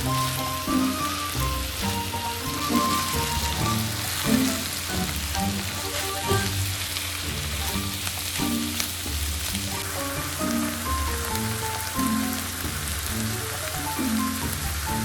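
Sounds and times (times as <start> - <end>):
background music: 0.0 - 15.0
food sizzling in frying pan: 0.0 - 15.0.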